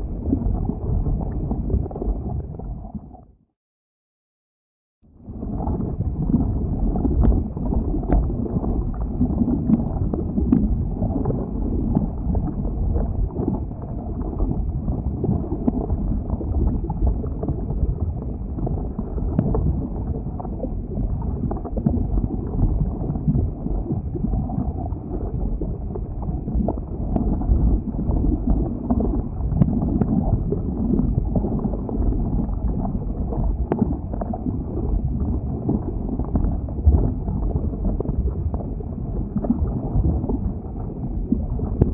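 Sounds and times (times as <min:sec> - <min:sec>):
lava flow rumbling: 0:00.0 - 0:03.2, 0:05.1 - 0:41.9.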